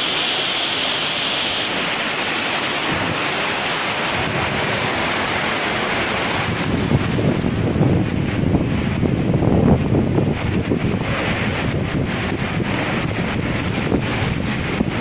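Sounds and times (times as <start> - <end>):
rushing water: 0.0 - 15.0
wind buffeting microphone: 1.6 - 15.0.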